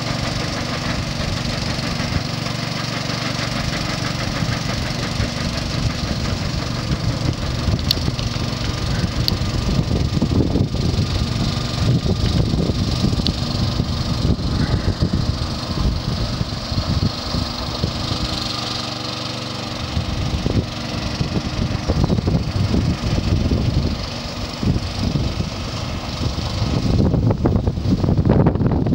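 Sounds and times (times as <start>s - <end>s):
paddle wheel splashing water: 0.0s - 26.9s
boat engine running: 0.0s - 28.9s.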